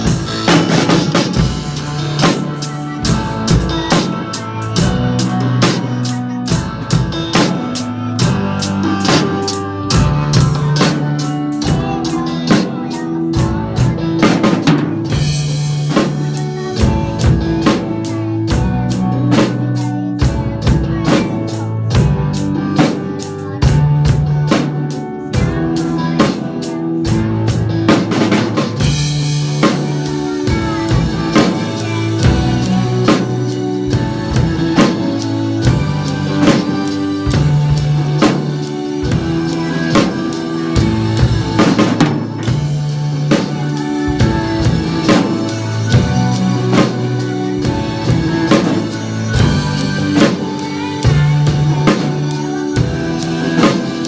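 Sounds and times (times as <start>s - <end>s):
acoustic drum kit: 0.0s - 54.0s
pop ballad backing track: 0.0s - 54.0s.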